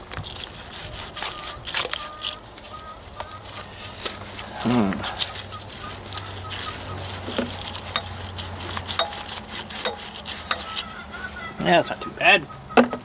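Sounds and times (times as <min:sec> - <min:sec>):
scratchy scraping with clicks: 0:00.0 - 0:10.9.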